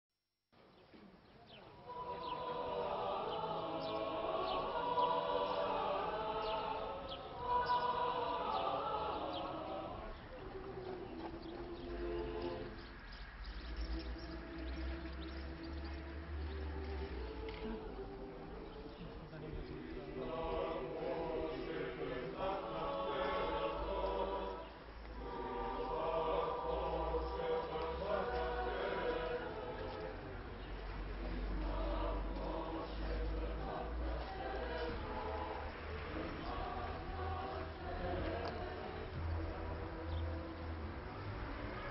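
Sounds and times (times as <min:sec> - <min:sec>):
slow choral singing: 0:01.5 - 0:41.9.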